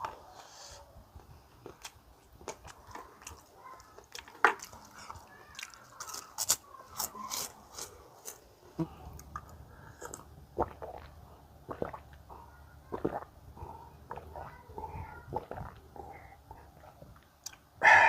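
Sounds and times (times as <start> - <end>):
crunchy chewing with mouth clicks: 1.2 - 17.7.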